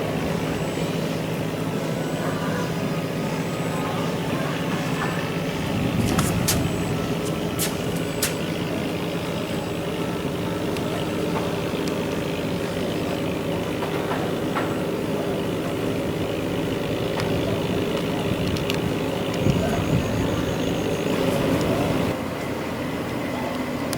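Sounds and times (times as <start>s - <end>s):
engine running: 0.0s - 23.9s.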